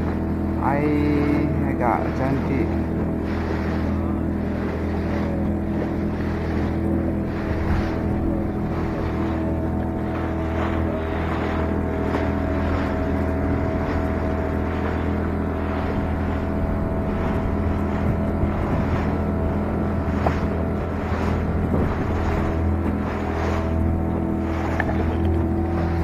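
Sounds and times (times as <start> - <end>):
outboard motor running: 0.0 - 26.0
water slapping against hull: 0.0 - 26.0.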